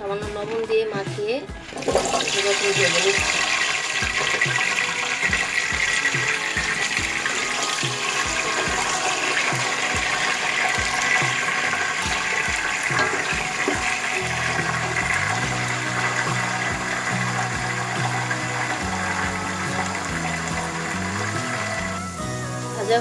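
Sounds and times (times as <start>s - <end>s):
potatoes sizzling in oil: 1.7s - 23.0s.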